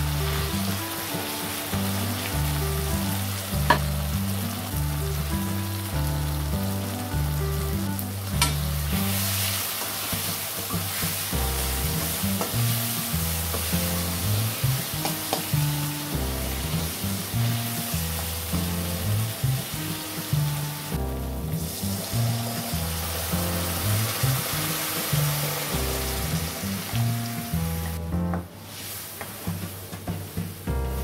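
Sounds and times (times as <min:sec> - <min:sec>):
masala sizzling in a pan: 0:00.0 - 0:28.0, 0:28.6 - 0:30.7.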